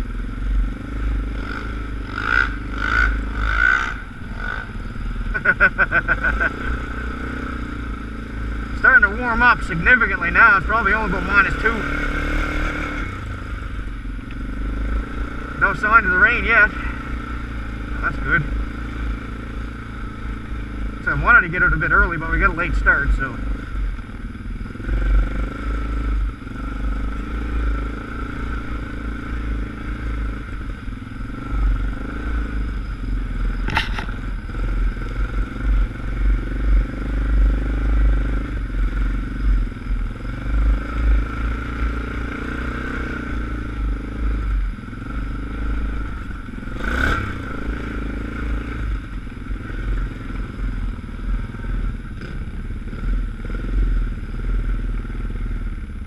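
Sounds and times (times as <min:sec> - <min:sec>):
atv engine rumbling and rattling: 0:00.0 - 0:56.0.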